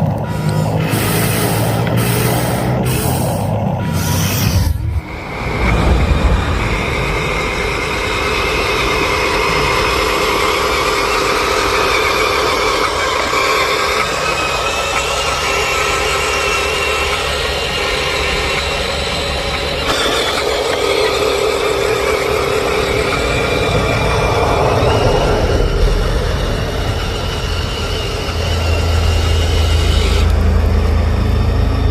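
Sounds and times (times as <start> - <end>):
rc model mechanical whine: 0.0 - 31.9.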